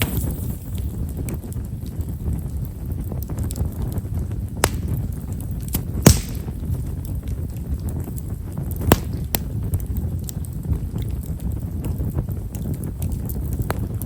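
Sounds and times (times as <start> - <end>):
fire low rumble: 0.0 - 14.0
firewood crackling and popping: 0.0 - 14.0.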